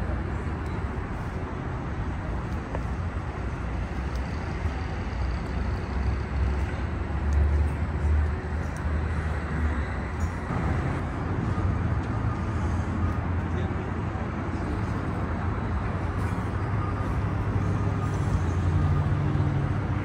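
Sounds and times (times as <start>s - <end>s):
low rumble of city traffic: 0.0s - 20.0s.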